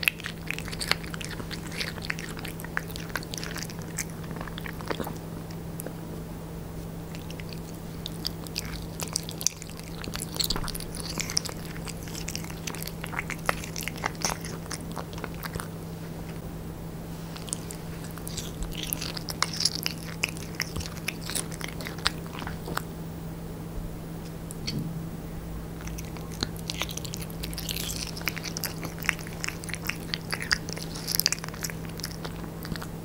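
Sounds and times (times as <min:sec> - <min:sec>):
cat chewing meat: 0:00.0 - 0:06.0, 0:07.0 - 0:16.4, 0:17.2 - 0:22.9, 0:25.7 - 0:33.0
steady low hum: 0:00.0 - 0:33.0.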